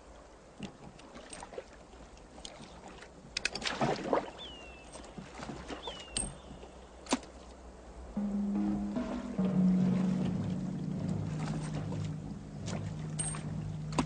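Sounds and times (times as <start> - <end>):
oars splashing in water: 0.2 - 7.6, 8.6 - 14.0.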